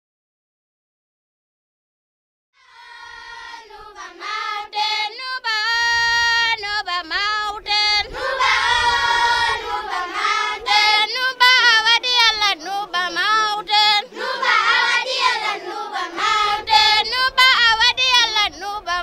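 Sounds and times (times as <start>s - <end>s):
children singing: 2.6s - 6.8s, 7.4s - 19.0s.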